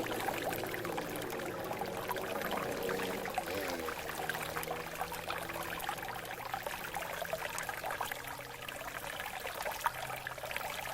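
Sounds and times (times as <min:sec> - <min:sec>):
stream babbling over rocks: 0:00.0 - 0:10.9.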